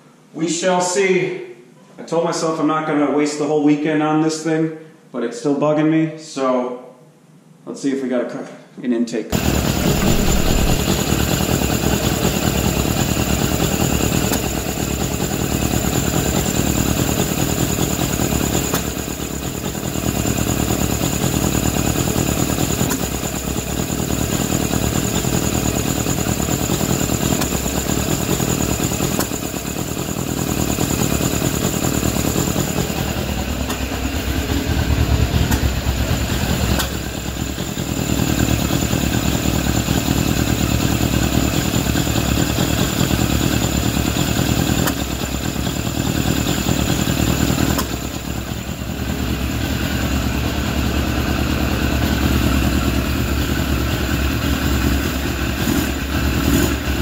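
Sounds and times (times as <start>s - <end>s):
motorcycle engine idling unevenly: 9.4s - 57.0s.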